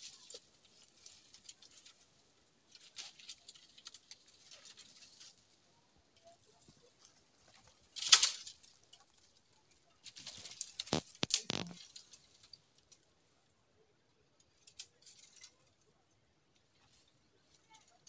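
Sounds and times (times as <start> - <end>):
dry branches crackling and snapping: 0.0 - 13.2, 14.4 - 15.9, 16.5 - 18.0.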